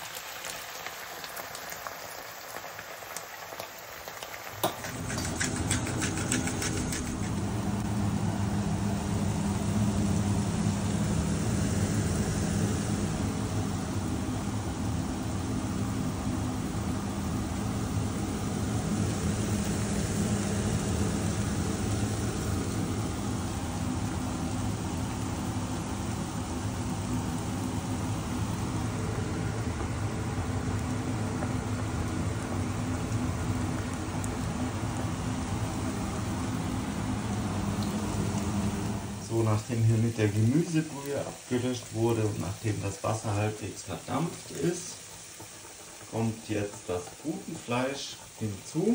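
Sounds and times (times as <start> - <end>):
food frying in a pan: 0.0 - 48.9
pot boiling: 0.0 - 48.9
low mechanical hum: 3.1 - 48.9.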